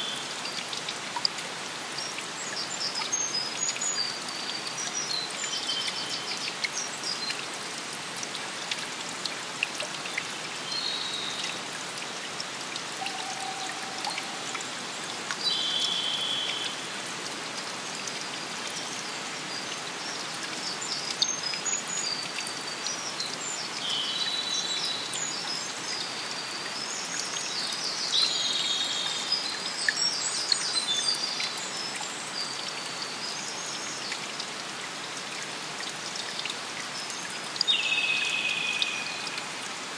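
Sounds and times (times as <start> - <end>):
rain and running water: 0.0 - 39.9.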